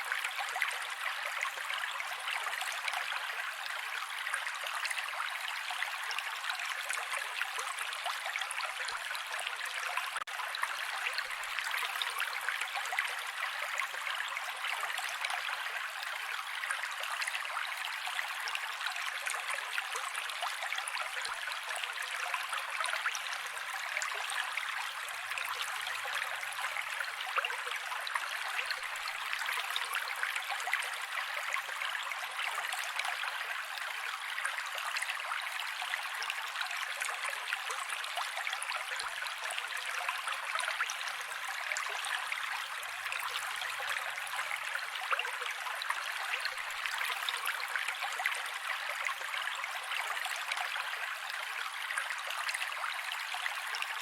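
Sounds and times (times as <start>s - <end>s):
creek water rushing and trickling: 0.0s - 54.0s.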